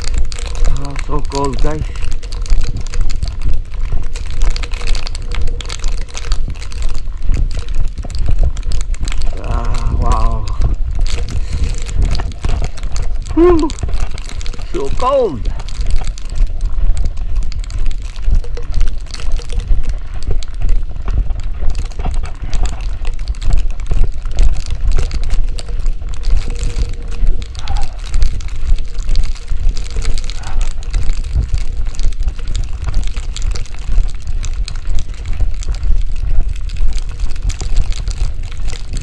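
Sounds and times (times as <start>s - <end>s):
gusty wind buffeting microphone: 5.0s - 18.0s, 19.6s - 39.0s.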